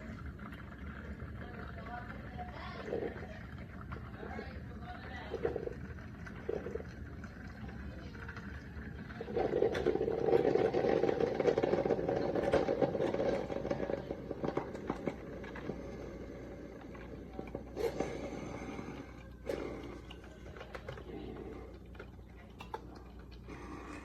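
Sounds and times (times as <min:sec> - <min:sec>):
coffee maker brewing: 0:00.0 - 0:24.0
water gurgling and sputtering: 0:00.0 - 0:24.0.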